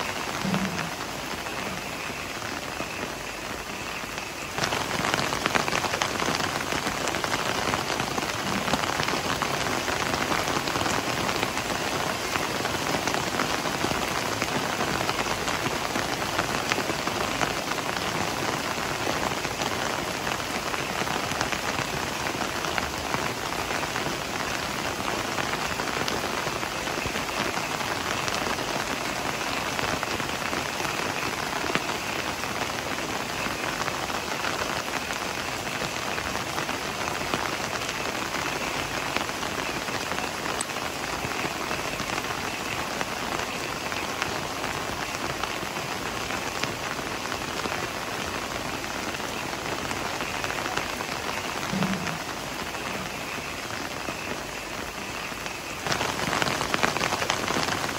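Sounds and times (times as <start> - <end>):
heavy rain: 0.0 - 57.9
raindrops hitting leaves: 0.0 - 57.9.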